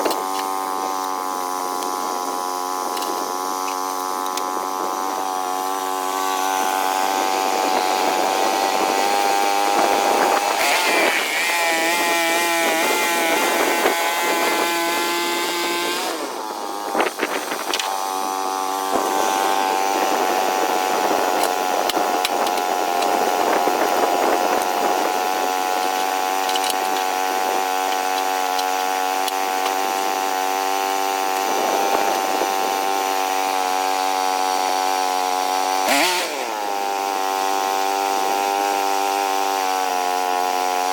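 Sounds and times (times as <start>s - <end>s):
saw cutting log: 0.0s - 40.9s
sawmill engine running: 0.0s - 40.9s.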